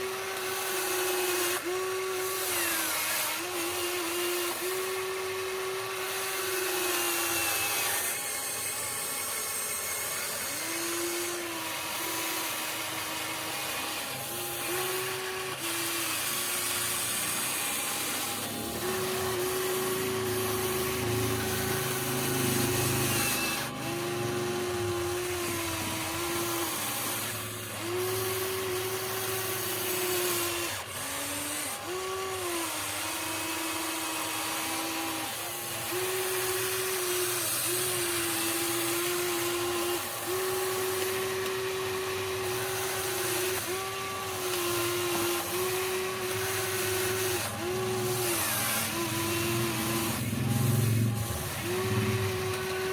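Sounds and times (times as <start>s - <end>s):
toy excavator motors whining: 0.0s - 52.9s.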